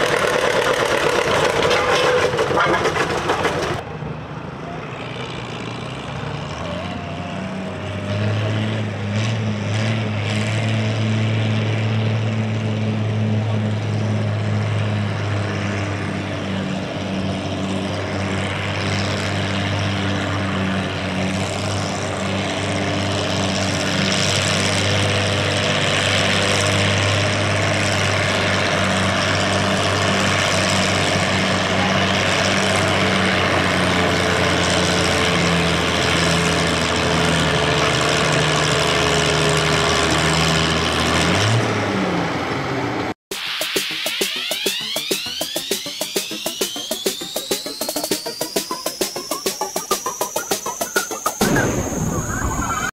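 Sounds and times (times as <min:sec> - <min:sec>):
tractor engine running: 0:00.0 - 0:04.2, 0:05.3 - 0:52.9.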